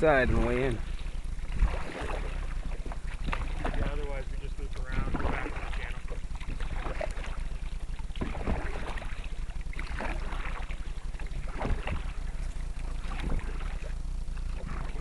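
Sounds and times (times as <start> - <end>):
canoe paddles splashing in water: 0.0 - 15.0
wind rumble on microphone: 0.0 - 15.0.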